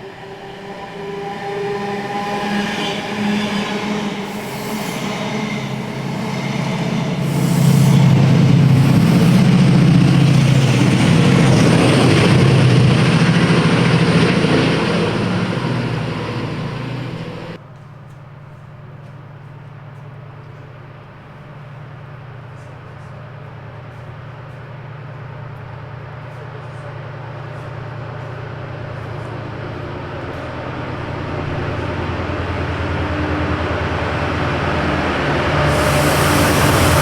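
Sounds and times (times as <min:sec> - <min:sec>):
diesel locomotive engine running: 0:00.0 - 0:17.6, 0:18.7 - 0:37.0
train passing: 0:00.0 - 0:17.6, 0:23.2 - 0:37.0.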